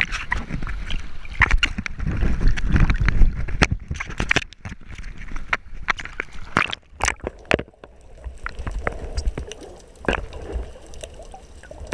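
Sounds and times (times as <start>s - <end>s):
faint underwater clicks: 0.0s - 11.9s
water splashing and sloshing: 0.0s - 11.9s.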